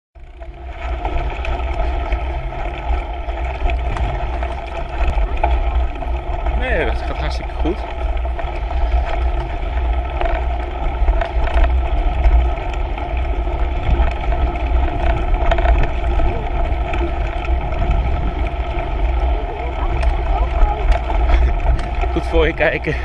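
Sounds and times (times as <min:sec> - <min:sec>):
bike rattling over bumps: 0:00.2 - 0:23.0
bike tyre noise on dirt: 0:00.2 - 0:23.0
wind rumble on microphone: 0:00.2 - 0:23.0.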